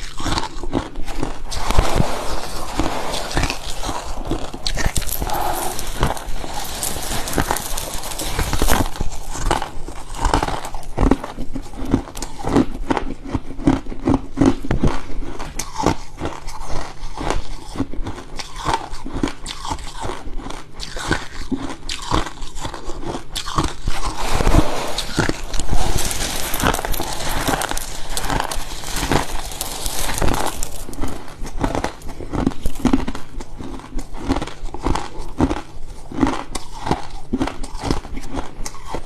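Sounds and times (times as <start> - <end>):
frost being chewed: 0.0 - 24.2, 25.0 - 39.0.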